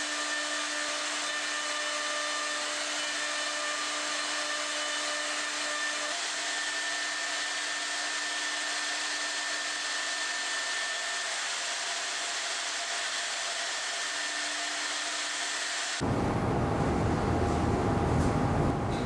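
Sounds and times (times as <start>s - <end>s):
drilling spindle motor whine: 0.0s - 16.6s.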